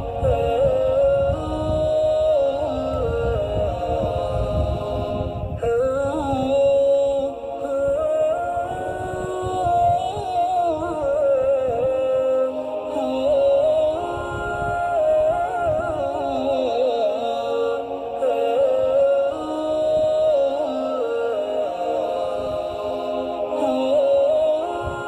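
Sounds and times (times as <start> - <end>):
voice humming long held notes: 0.0 - 25.0.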